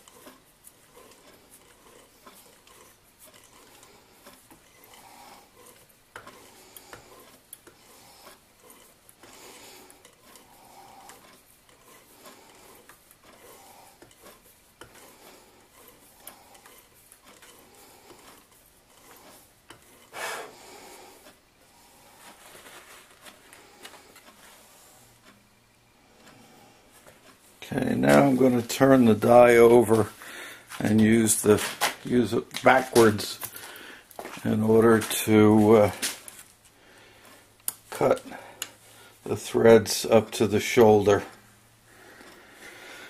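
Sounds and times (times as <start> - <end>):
threading die scraping metal: 0.0 - 36.6.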